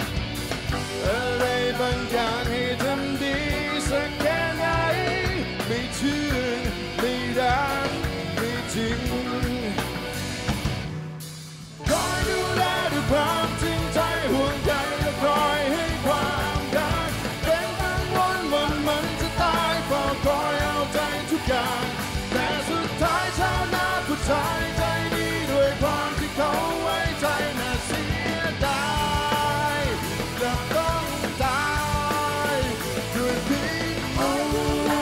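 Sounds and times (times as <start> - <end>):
rock band playing: 0.0 - 35.0
man singing: 0.8 - 10.2, 11.8 - 35.0.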